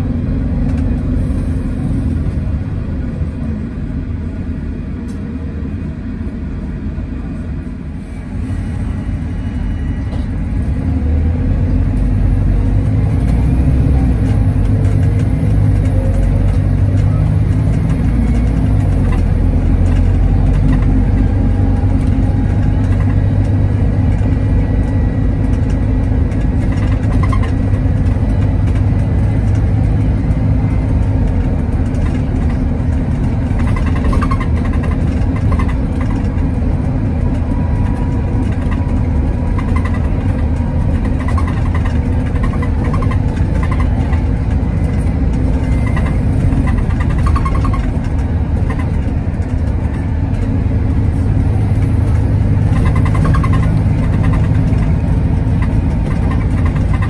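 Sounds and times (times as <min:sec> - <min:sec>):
diesel bus engine running: 0:00.0 - 0:57.0
road rumble: 0:00.0 - 0:57.0.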